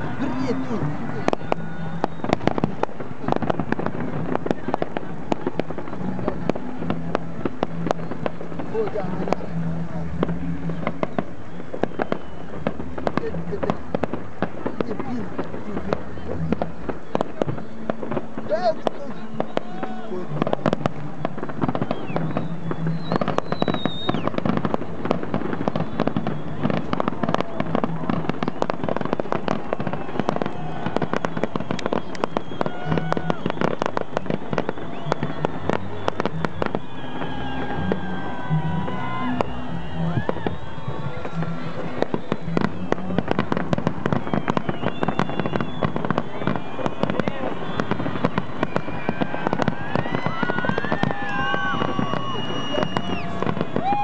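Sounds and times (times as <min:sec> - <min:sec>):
firework bangs and cracks: 0:00.0 - 0:54.0.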